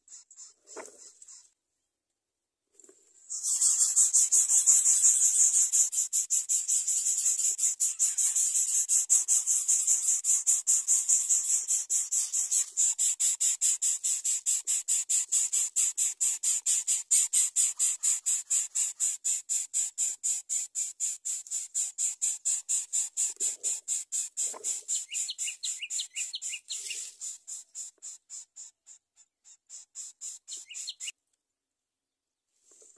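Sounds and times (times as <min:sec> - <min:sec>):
insect chirping: 0:03.4 - 0:29.0, 0:29.7 - 0:31.1.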